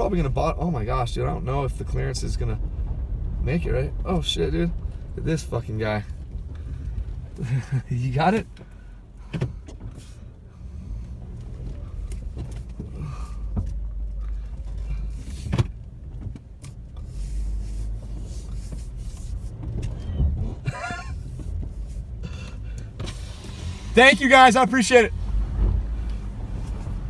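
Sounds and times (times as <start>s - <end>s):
vehicle rumbling over snow: 0.0s - 27.0s.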